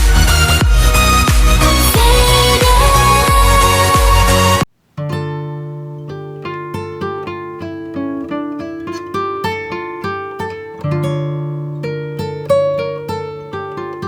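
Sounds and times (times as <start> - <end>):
plucked string melody: 0.0 - 14.0.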